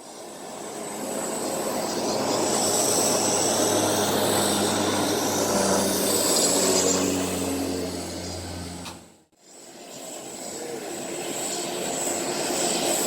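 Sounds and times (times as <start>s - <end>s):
aircraft engines whining: 0.0s - 13.0s.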